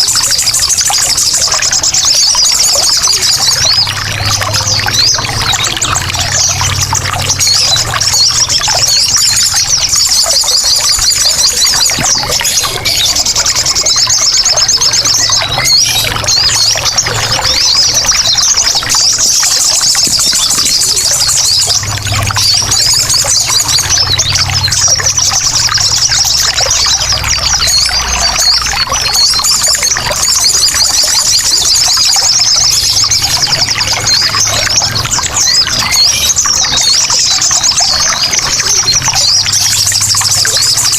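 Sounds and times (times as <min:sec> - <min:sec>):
birds chattering and trilling: 0:00.0 - 0:40.9
trickling water: 0:00.0 - 0:40.9.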